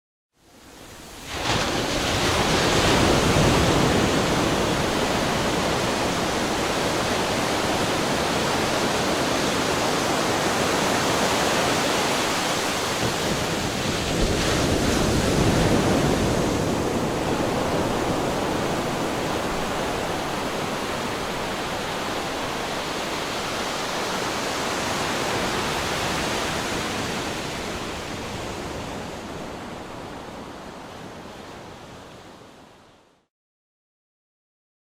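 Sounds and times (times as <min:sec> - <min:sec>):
sea waves breaking on shore: 0:00.5 - 0:32.7.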